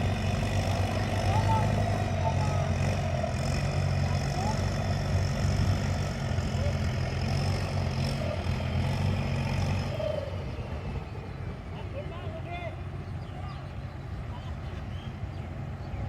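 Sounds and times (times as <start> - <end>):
diesel railcar engine humming: 0.0 - 16.0.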